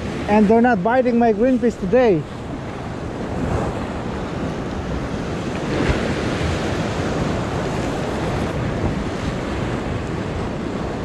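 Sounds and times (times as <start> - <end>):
ocean surf against rocks: 0.0 - 11.0
wind buffeting microphone: 0.0 - 11.0.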